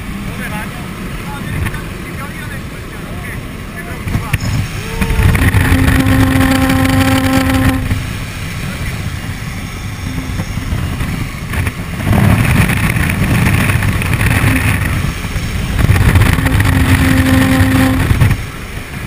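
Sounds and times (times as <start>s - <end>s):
aircraft engine and propeller: 0.0s - 19.0s
wind rushing: 3.5s - 19.0s.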